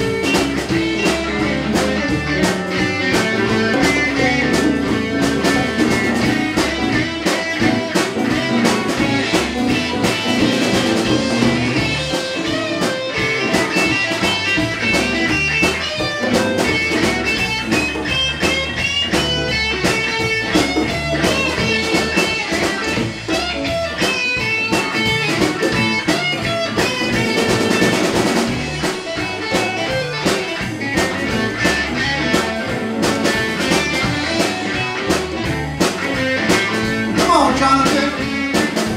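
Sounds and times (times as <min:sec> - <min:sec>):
blues band playing: 0:00.0 - 0:38.9
electric guitar: 0:00.0 - 0:38.9.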